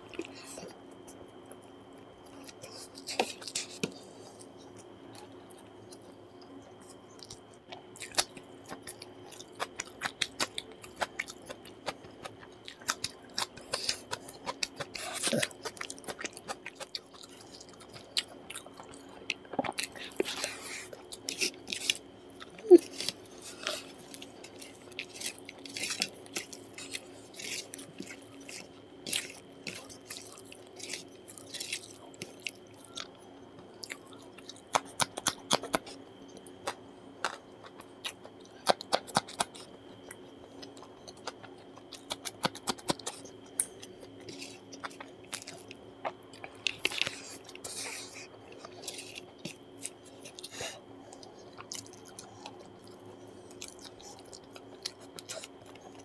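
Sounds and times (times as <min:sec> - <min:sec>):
faint steady hum: 0:00.0 - 0:56.0
close chewing with wet smacks: 0:00.1 - 0:56.0.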